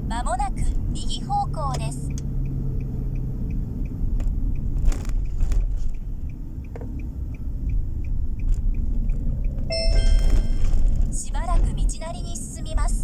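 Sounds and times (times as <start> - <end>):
car road and engine rumble: 0.0 - 13.0
light regular ticking: 0.5 - 12.8.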